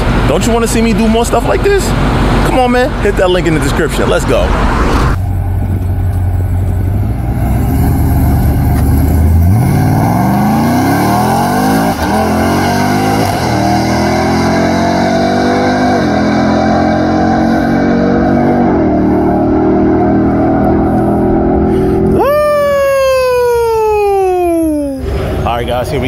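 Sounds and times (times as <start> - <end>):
pickup truck engine accelerating: 0.0 - 26.0.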